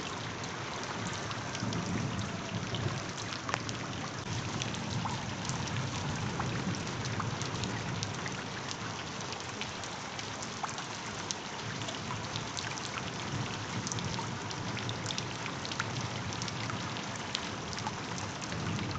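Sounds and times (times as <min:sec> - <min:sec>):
constant rain hiss: 0:00.0 - 0:18.9.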